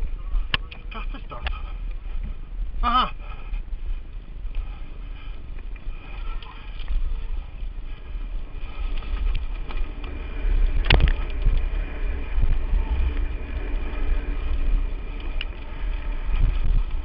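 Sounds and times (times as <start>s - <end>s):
bike rattling on rough trail: 0.0s - 17.0s
wind on microphone: 0.0s - 17.0s.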